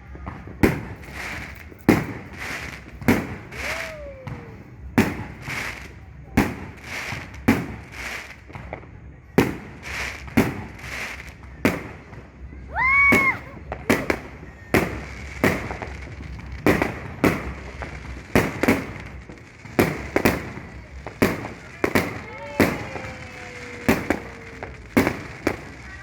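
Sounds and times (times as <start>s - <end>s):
firecrackers banging: 0.0s - 26.0s
whistling firework: 0.0s - 26.0s.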